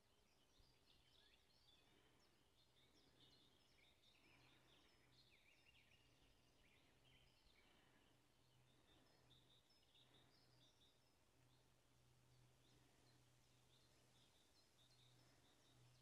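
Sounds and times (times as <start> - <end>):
faint steady low hum: 0.0 - 16.0
songbirds chirping and warbling: 0.0 - 16.0.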